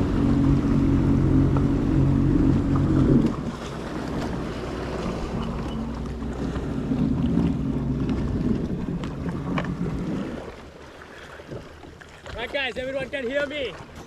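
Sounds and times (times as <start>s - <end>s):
jet ski engine running: 0.0s - 11.8s.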